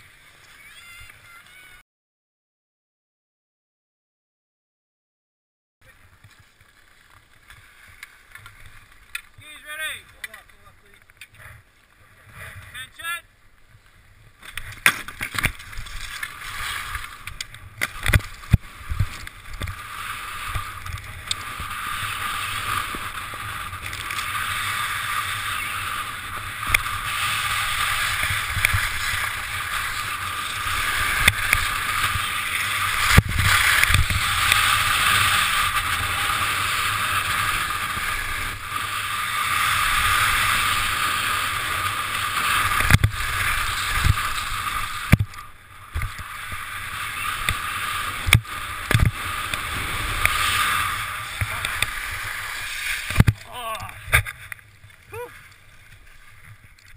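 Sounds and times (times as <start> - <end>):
skis scraping over snow: 5.8 - 56.9.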